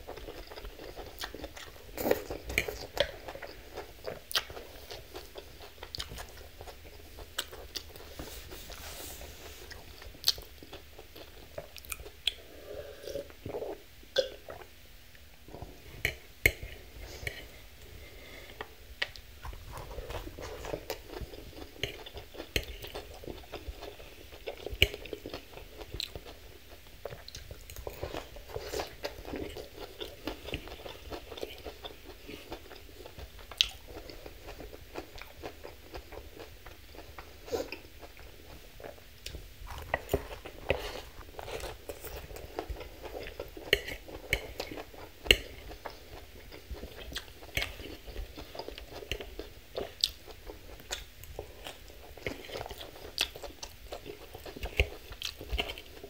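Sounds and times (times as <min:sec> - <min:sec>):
chewing and crunching salad: 0:00.0 - 0:56.0.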